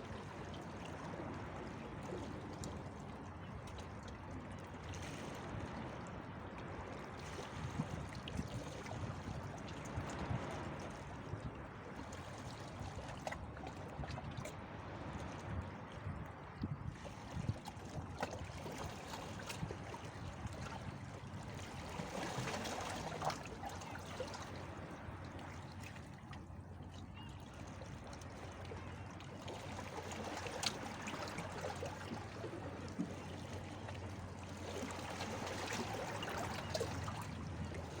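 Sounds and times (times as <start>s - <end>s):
sea water lapping: 0.0s - 38.0s.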